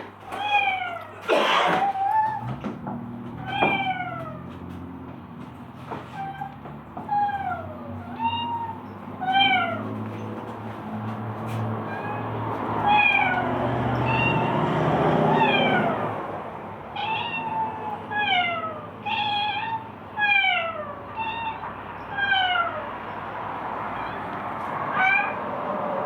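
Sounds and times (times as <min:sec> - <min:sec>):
cats meowing: 0:00.0 - 0:26.0.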